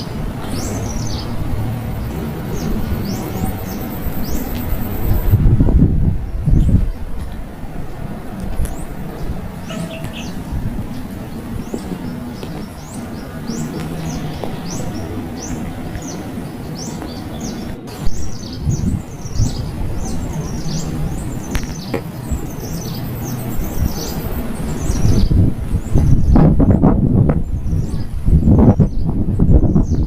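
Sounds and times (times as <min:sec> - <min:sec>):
small birds chirping: 0:00.0 - 0:05.4, 0:08.4 - 0:26.7, 0:27.4 - 0:30.0.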